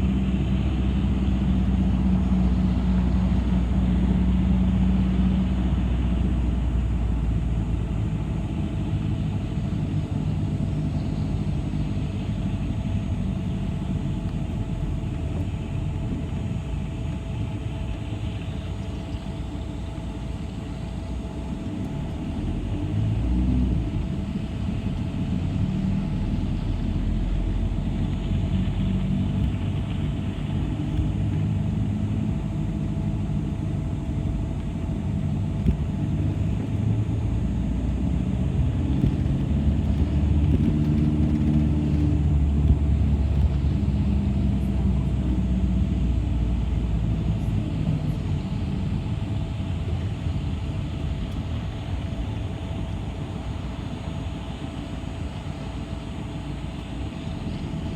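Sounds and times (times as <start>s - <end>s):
bus motor and road rumble: 0.0s - 57.9s
faint steady hum: 0.0s - 57.9s.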